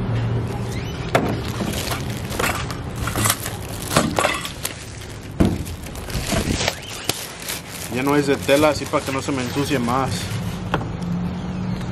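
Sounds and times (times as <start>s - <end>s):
plastic bag crinkling: 0.6s - 10.5s.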